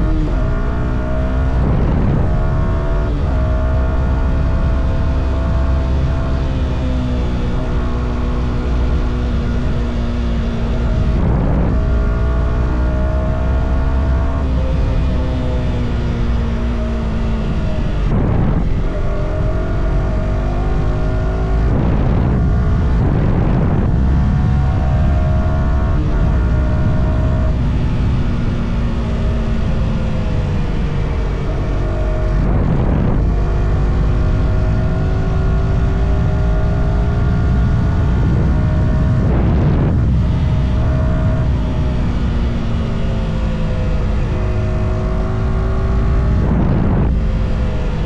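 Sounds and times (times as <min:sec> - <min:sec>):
low rush of wind: 0:00.0 - 0:48.0
motorcycle engine through gears: 0:00.0 - 0:48.0.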